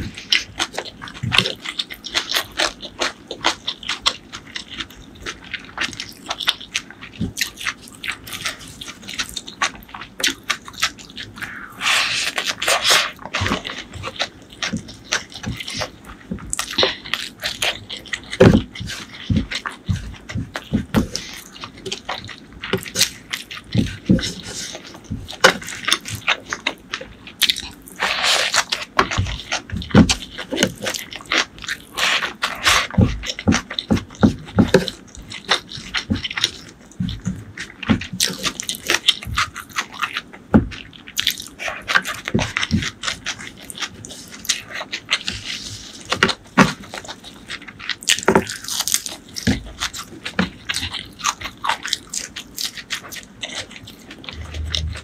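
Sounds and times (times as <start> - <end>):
crunching and wet chewing: 0.0 - 55.0.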